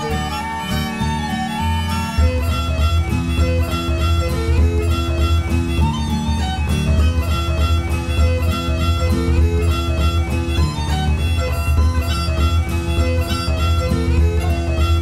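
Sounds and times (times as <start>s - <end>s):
instrumental music with pulsing bass: 0.0s - 15.0s.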